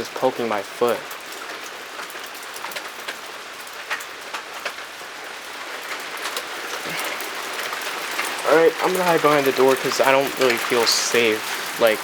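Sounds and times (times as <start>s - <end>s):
light rain drops ticking: 0.0s - 12.0s.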